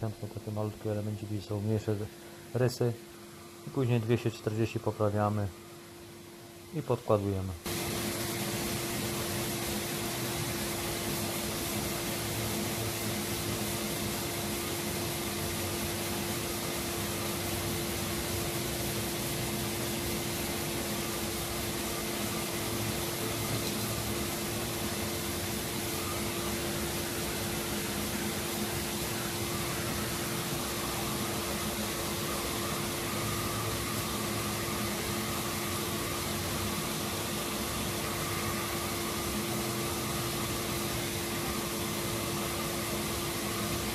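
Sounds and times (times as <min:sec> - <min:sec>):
dust extraction vacuum humming: 0:00.0 - 0:43.9.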